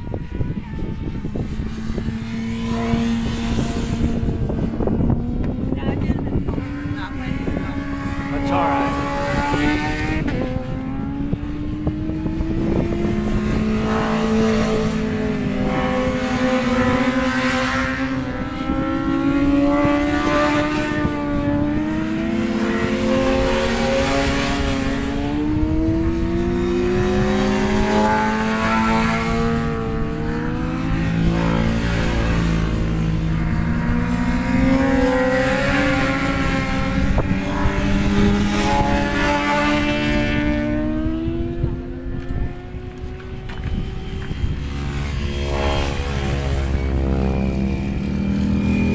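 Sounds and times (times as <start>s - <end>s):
racing motorcycle engine: 0.0s - 48.9s
wind noise: 0.0s - 48.9s.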